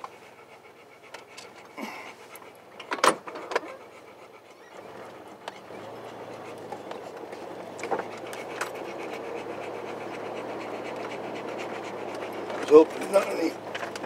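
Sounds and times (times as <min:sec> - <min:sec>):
engine hum: 0:00.0 - 0:14.0
tyres on bumpy dirt track: 0:00.0 - 0:14.0.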